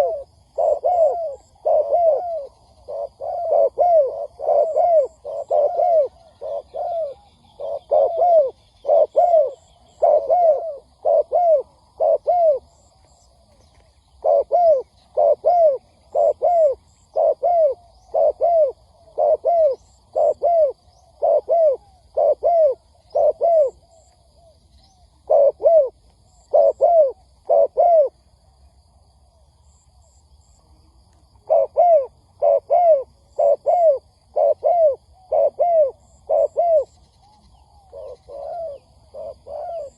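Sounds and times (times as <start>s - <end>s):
dove cooing: 0.0s - 28.2s, 31.4s - 39.9s.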